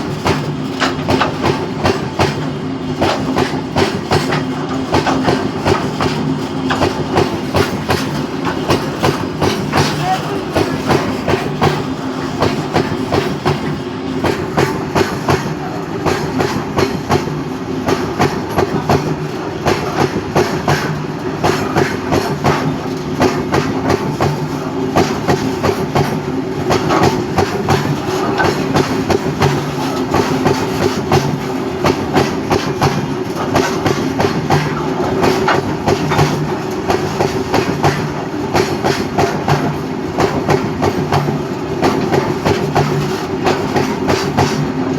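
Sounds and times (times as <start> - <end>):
train rumble: 0.0 - 44.9
train wheels clattering: 0.0 - 44.9.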